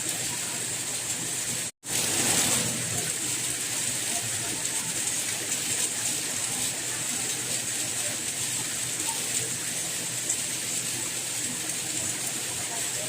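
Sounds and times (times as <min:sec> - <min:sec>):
steady rain hissing: 0:00.0 - 0:13.0.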